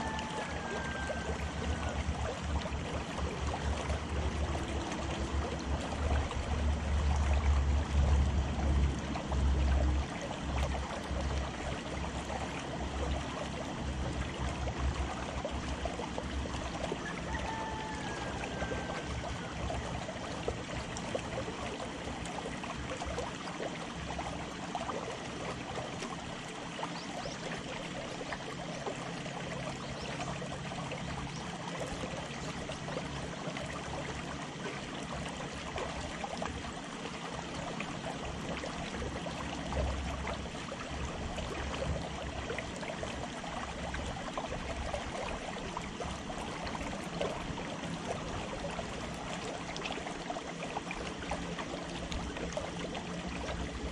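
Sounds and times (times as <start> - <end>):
small waves lapping against dock: 0.0 - 53.9.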